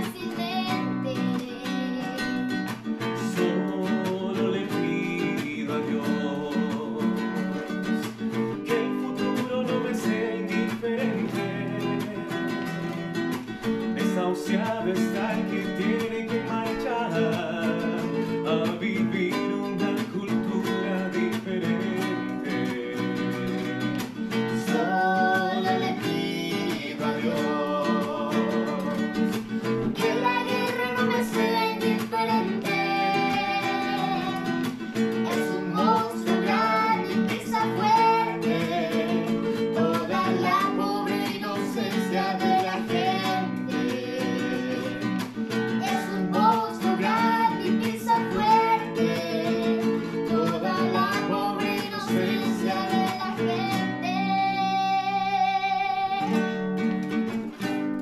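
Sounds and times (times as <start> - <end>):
girl singing: 0.0 - 23.7, 24.3 - 56.5
acoustic guitars strummed: 0.0 - 58.0.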